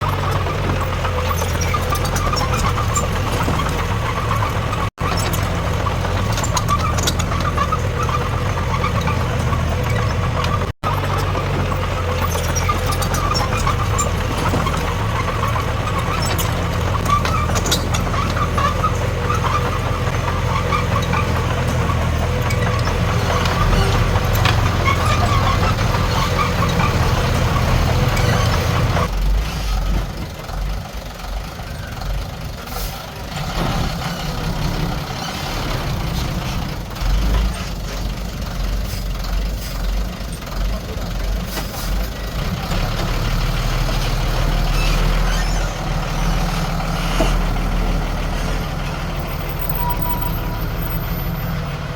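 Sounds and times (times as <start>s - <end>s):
heavy diesel machinery running: 0.0s - 51.9s.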